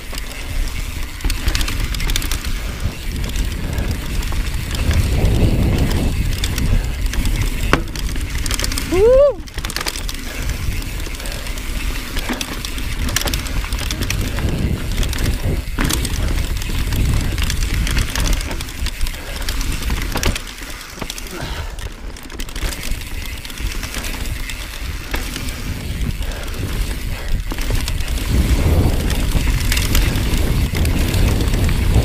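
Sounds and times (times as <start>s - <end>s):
bike clicking and rattling: 0.0s - 32.0s
tyres rolling over dirt: 0.0s - 32.0s
wind rumbling on microphone: 0.0s - 32.0s.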